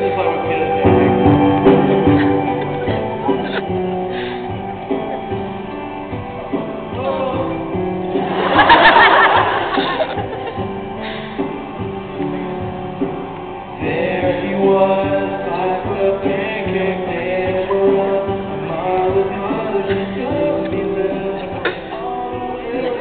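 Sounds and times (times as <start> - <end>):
instrumental accompaniment: 0.0 - 23.0
person singing: 0.0 - 23.0.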